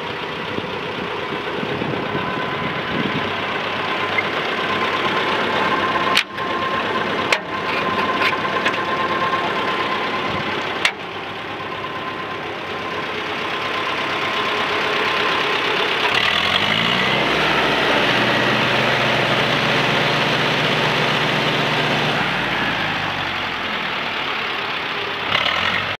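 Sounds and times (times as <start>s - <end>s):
tractor engine revving: 0.0s - 26.0s.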